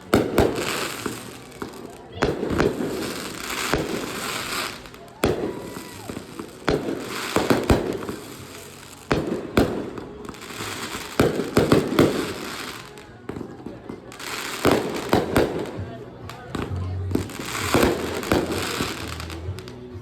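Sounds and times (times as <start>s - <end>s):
fireworks bangs: 0.0s - 19.8s
fireworks crackle: 0.0s - 20.0s.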